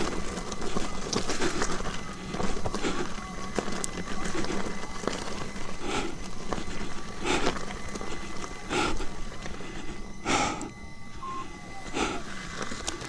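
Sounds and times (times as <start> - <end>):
person breathing hard: 0.0 - 10.9, 11.8 - 12.7
rough gravel noise: 0.0 - 13.0
steady high whine: 0.0 - 13.0.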